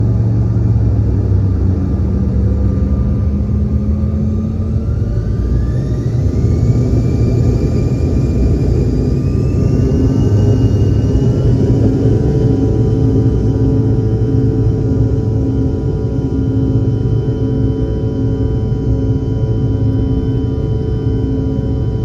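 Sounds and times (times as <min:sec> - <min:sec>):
jet engines spooling up: 0:00.0 - 0:22.0.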